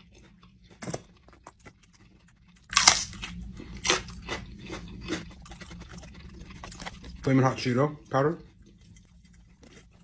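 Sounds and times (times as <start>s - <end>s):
crunching and chewing: 0.0s - 10.0s.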